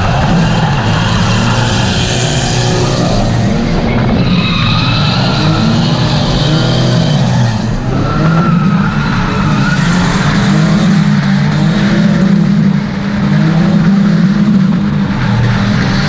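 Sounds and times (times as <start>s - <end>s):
car engines revving high: 0.0s - 16.0s.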